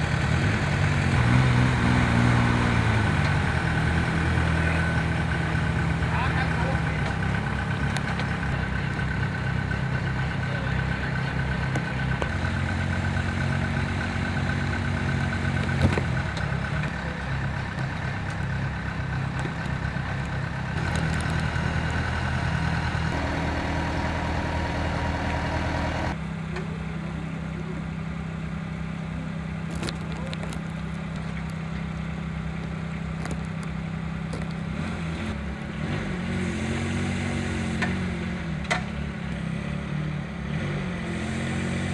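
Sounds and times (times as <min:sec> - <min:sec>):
machine engine humming: 0:02.1 - 0:35.8.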